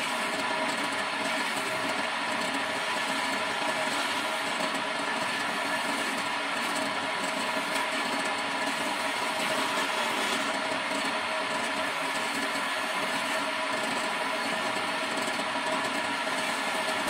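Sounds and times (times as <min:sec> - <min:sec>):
chisel shaving wood: 0:00.0 - 0:17.0
wood lathe motor whirring: 0:00.0 - 0:17.0.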